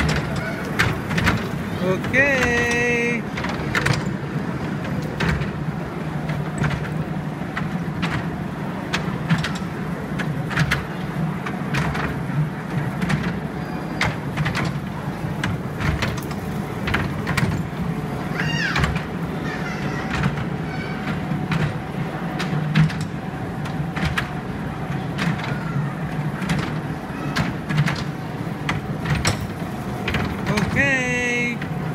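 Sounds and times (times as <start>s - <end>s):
ride humming: 0.0s - 31.9s
wheels clicking over rail joints: 0.0s - 31.9s.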